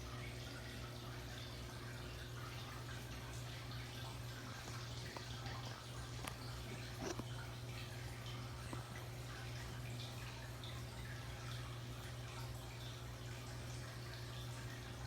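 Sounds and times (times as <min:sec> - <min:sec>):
aquarium water trickling and bubbling: 0:00.0 - 0:15.0.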